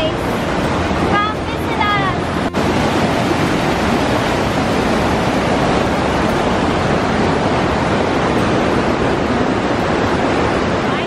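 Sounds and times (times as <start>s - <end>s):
water rushing down rock: 0.1s - 11.0s.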